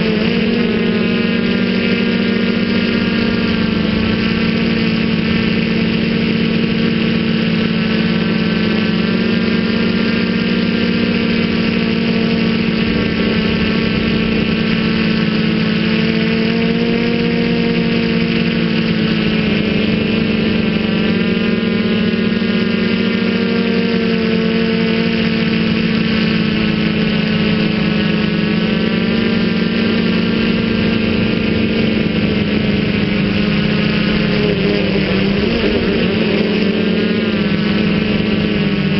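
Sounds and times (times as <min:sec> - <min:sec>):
drone motors droning: 0:00.0 - 0:38.9.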